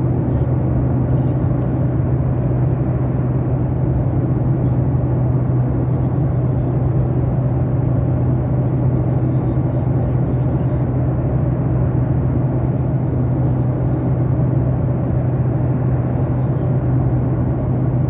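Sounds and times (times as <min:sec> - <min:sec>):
airliner engine drone: 0:00.0 - 0:18.0
constant low hum: 0:00.0 - 0:18.0.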